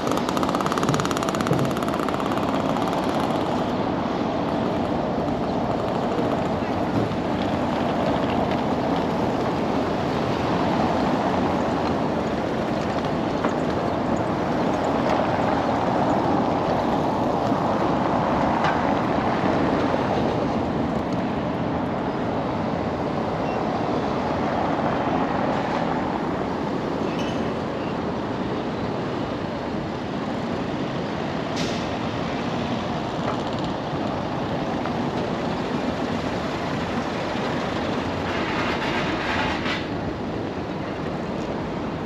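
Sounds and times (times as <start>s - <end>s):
cars driving on cobbles: 0.0s - 42.0s.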